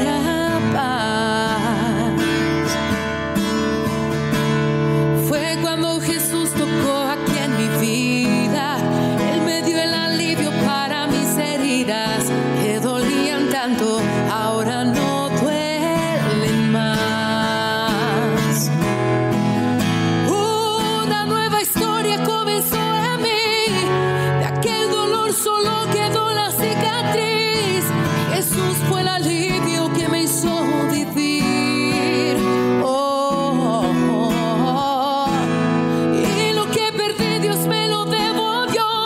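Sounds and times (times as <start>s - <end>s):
acoustic guitar chords: 0.0s - 39.0s
person singing with vibrato: 0.0s - 39.0s.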